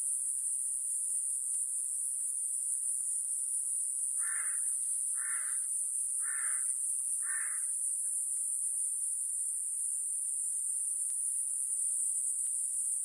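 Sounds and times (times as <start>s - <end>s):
cicada high-pitched buzz: 0.0s - 13.0s.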